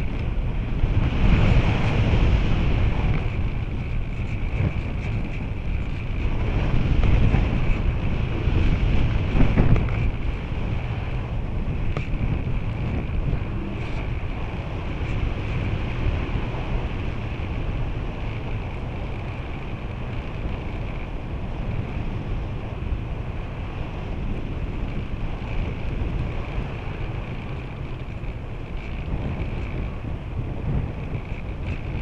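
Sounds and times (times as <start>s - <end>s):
airflow buffeting and hissing: 0.0s - 32.0s.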